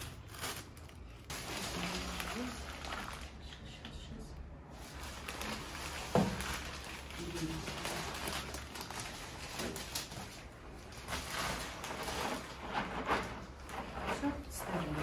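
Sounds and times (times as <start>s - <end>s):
plastic bag rustling: 0.0s - 3.6s, 4.6s - 15.0s.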